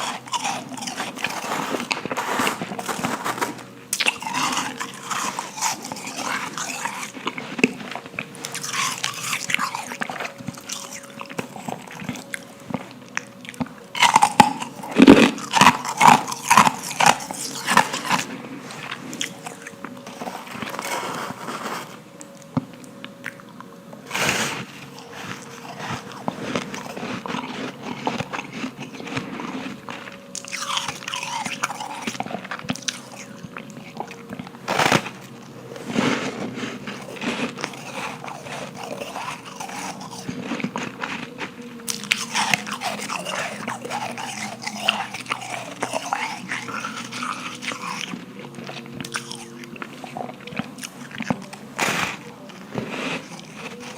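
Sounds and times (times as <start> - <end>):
ice crunching bites: 0.0 - 23.5, 24.1 - 53.9
quiet chewing: 0.0 - 53.9.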